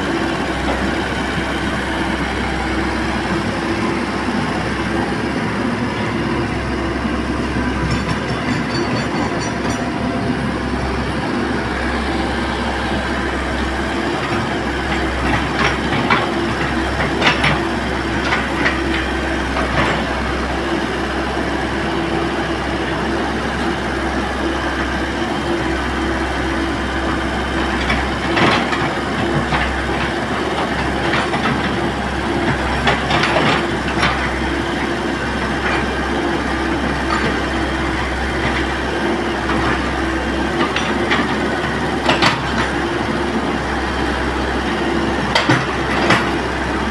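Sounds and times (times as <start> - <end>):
excavator diesel engine hum: 0.0 - 46.9.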